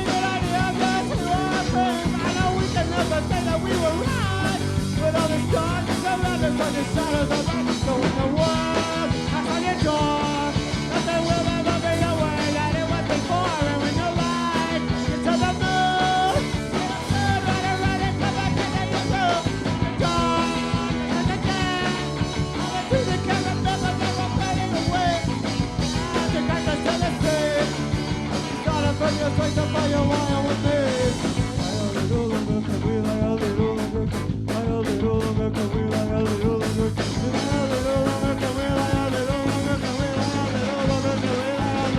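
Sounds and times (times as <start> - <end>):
fast drum hits: 0.0 - 41.9
live rock band playing: 0.0 - 41.9.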